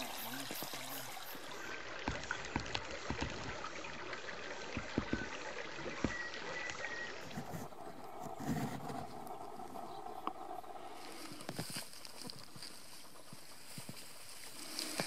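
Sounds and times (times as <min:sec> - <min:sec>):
stream trickling and gurgling: 0:00.0 - 0:15.0.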